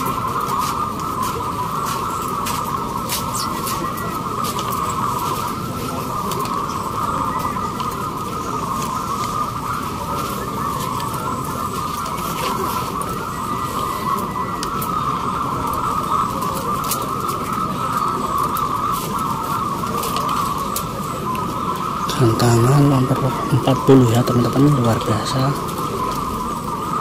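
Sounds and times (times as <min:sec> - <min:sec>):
doves cooing: 0:00.0 - 0:27.0.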